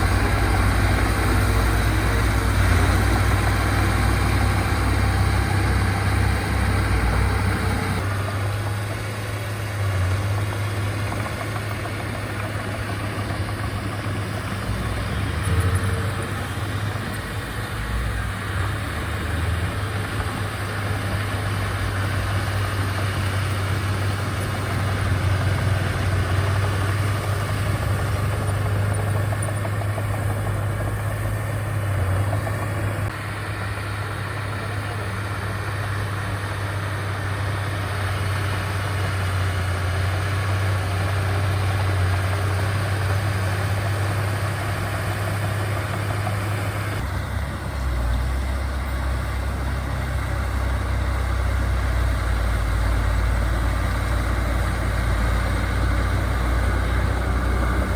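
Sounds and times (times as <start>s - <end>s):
diesel engine humming: 0.0s - 57.9s.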